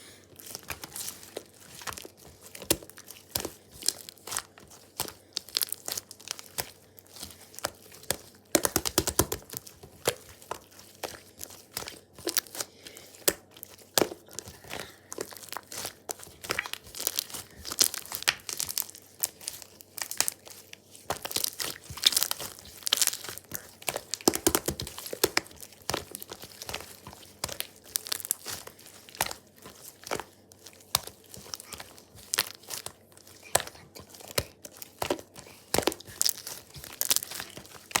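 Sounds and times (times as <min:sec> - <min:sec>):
paper crinkling and tearing: 0:00.3 - 0:38.0.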